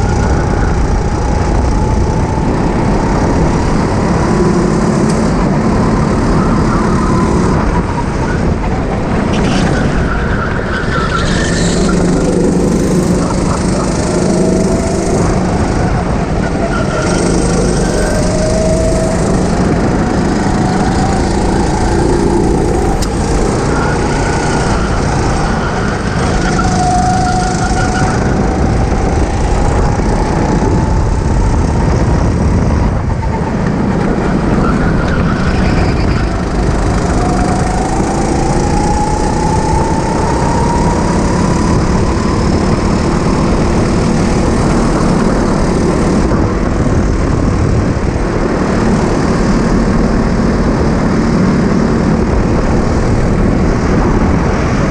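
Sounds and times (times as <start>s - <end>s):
go-kart engine whine: 0.0s - 54.9s
loud rushing noise: 0.0s - 54.9s.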